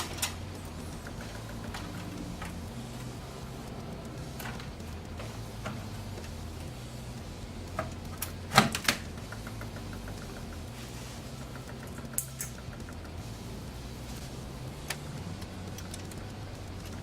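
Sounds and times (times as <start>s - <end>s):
computer fans humming: 0.0s - 17.0s
small hard parts clicking: 0.0s - 17.0s.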